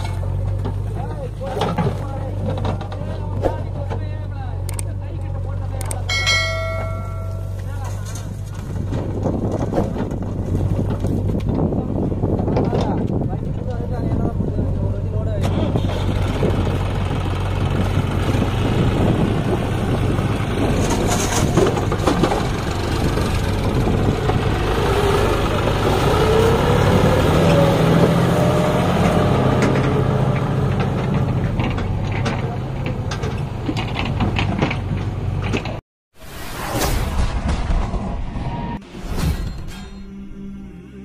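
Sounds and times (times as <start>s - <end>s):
tractor diesel engine under load: 0.0s - 35.8s.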